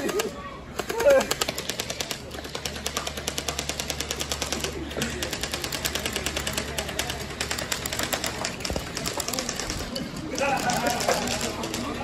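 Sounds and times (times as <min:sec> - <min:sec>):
gel blaster firing full auto: 0:00.0 - 0:12.0.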